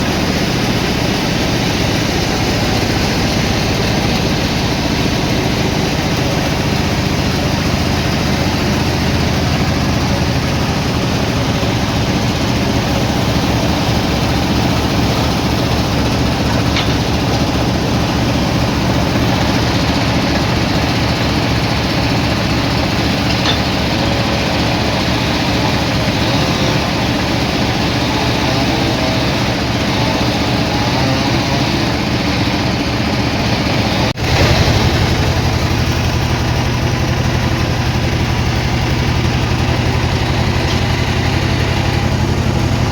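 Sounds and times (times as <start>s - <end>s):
sawmill engine droning: 0.0s - 42.9s.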